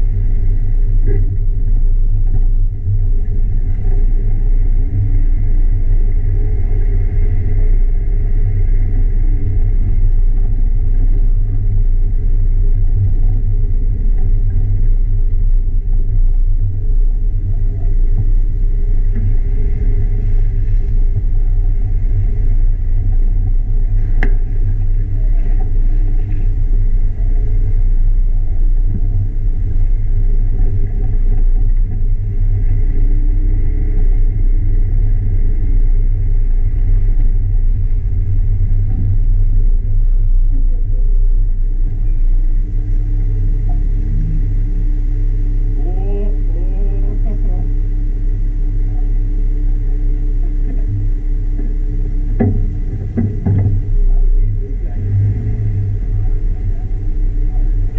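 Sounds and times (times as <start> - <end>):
vehicle engine low rumble: 0.0 - 57.9.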